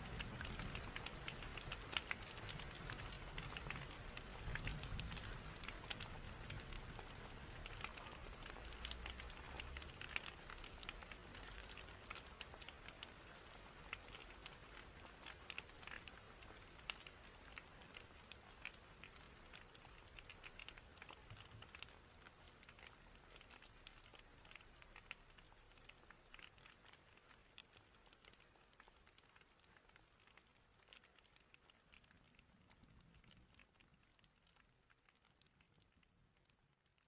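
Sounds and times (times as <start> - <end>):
faint crackling clicks: 0.0 - 37.0.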